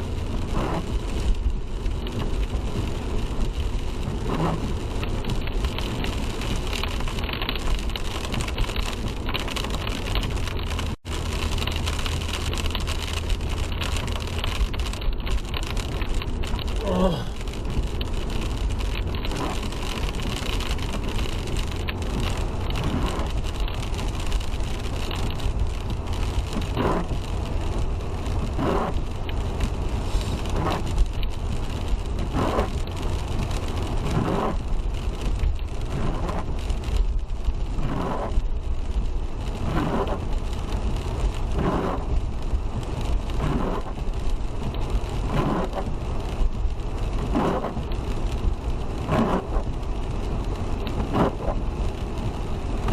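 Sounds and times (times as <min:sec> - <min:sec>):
road and tyre rumble: 0:00.0 - 0:52.9
windshield wipers swishing: 0:00.0 - 0:52.9.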